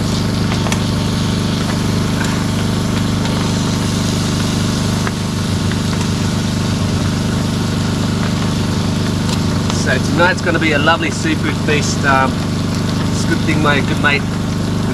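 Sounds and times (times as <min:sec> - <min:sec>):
low motor drone: 0:00.0 - 0:14.9.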